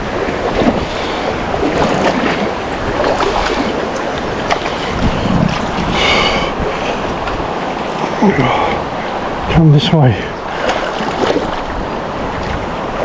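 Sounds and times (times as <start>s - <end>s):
rushing stream water: 0.0s - 13.0s
wind on microphone: 0.0s - 13.0s.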